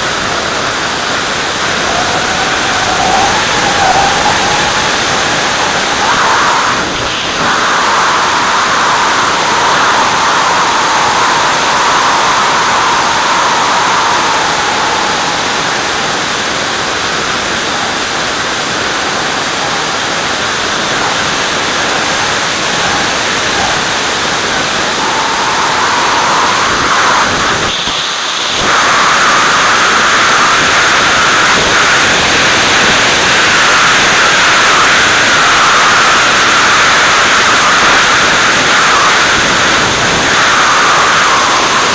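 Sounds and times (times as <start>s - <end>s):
aircraft engine noise: 0.0s - 41.9s
airflow rushing: 0.0s - 41.9s.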